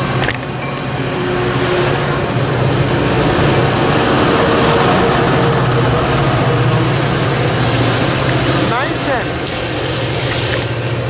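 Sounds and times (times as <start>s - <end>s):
diesel locomotive engine drone: 0.0s - 11.0s
passenger cars rolling past: 0.0s - 11.0s.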